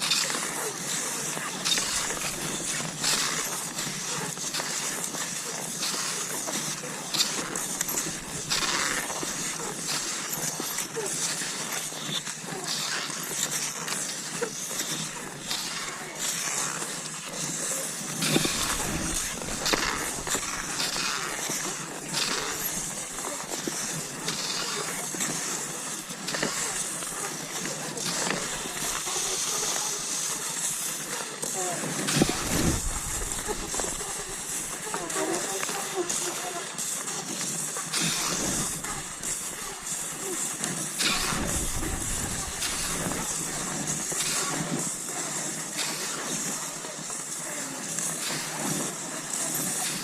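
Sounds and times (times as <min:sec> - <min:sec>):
crunching snow: 0:00.0 - 0:50.0
skis swishing over snow: 0:00.0 - 0:50.0.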